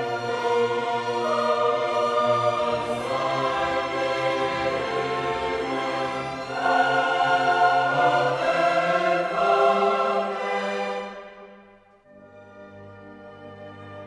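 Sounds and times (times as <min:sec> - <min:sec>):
choir singing with orchestra: 0:00.0 - 0:12.3.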